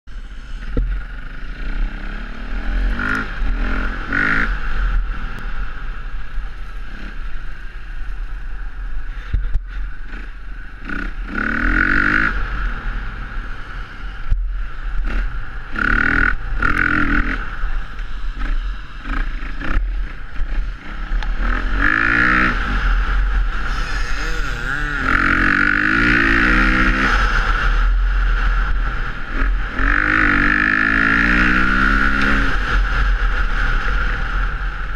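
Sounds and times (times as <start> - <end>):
off-road motorcycle engine revving: 0.6 - 34.9.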